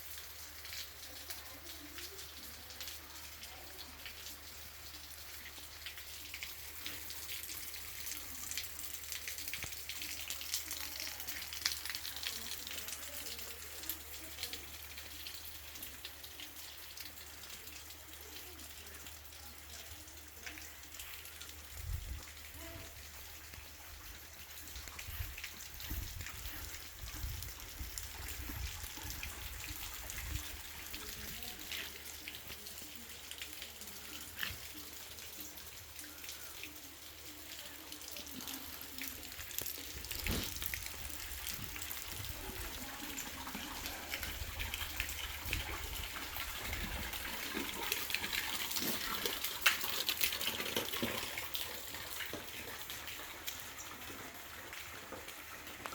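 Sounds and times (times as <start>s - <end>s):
rain pattering: 0.0s - 55.9s
water dripping and trickling: 0.0s - 55.9s.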